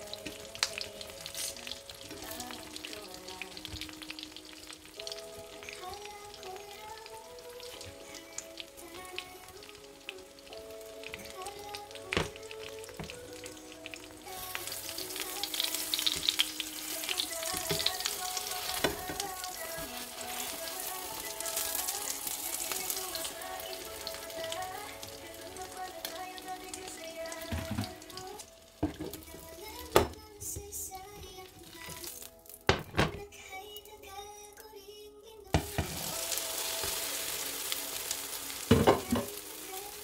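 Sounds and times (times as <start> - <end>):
omelette sizzling in a frying pan: 0.0 - 29.9, 35.6 - 40.0
background music: 0.0 - 40.0.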